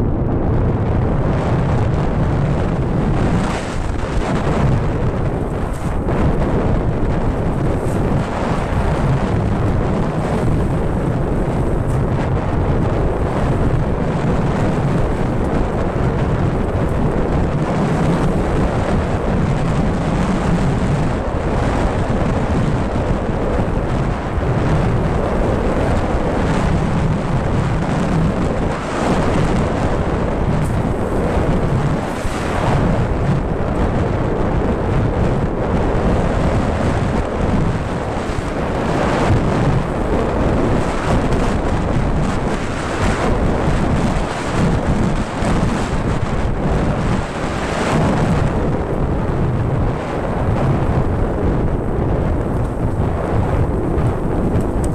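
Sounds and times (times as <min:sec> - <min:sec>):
rumble and rattle over rough ground: 0:00.0 - 0:54.9
wind buffeting microphone: 0:00.0 - 0:54.9.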